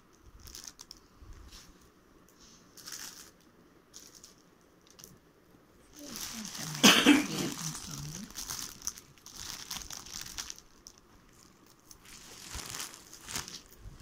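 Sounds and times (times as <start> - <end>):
bubble wrap crinkling: 0.0 - 1.8, 2.7 - 5.2, 5.8 - 14.0.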